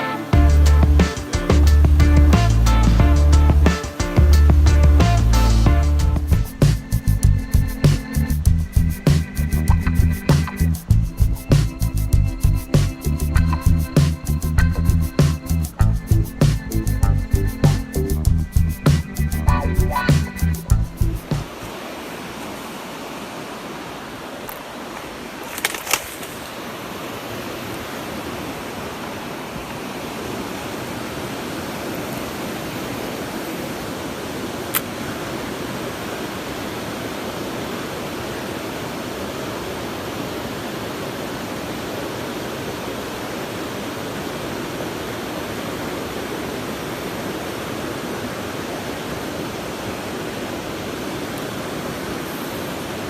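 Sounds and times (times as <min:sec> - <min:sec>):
stream water rushing: 0:00.0 - 0:08.4, 0:18.9 - 0:53.0.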